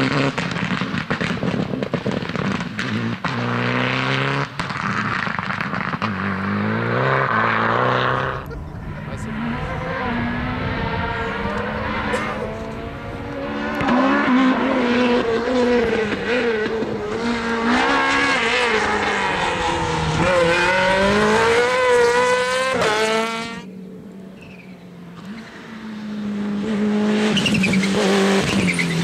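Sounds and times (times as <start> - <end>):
rally car engine revving hard: 0.0 - 23.7, 25.2 - 29.0.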